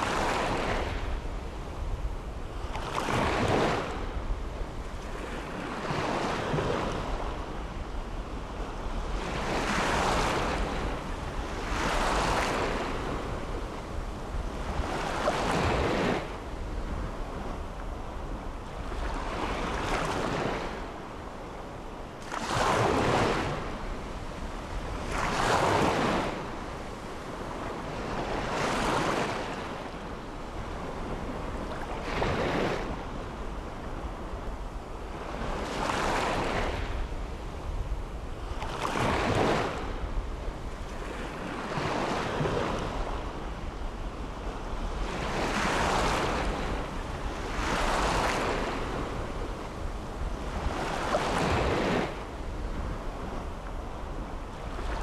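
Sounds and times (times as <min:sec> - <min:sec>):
small waves breaking on a beach: 0:00.0 - 0:55.0.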